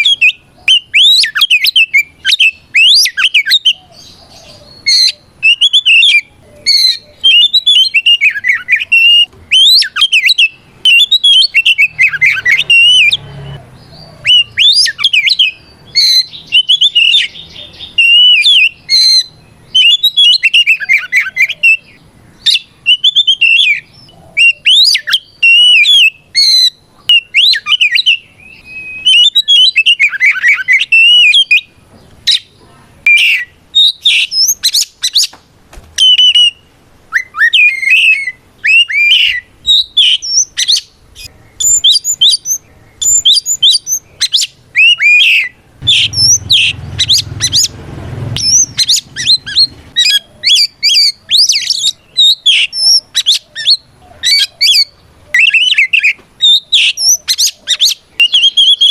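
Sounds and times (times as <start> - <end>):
magpie-robin singing: 0.0 - 35.4, 36.0 - 58.9.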